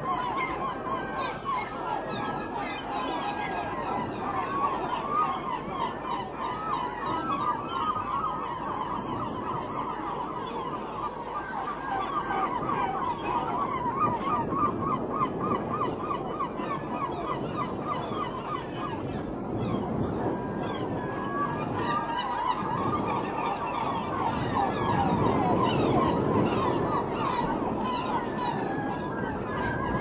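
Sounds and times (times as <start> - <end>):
flock of birds calling: 0.0 - 30.0.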